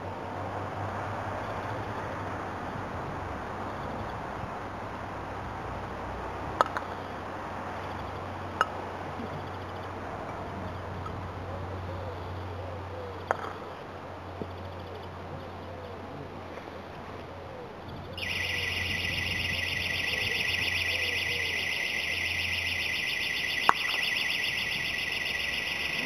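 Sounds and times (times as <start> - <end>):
steady outdoor hiss: 0.0 - 26.0.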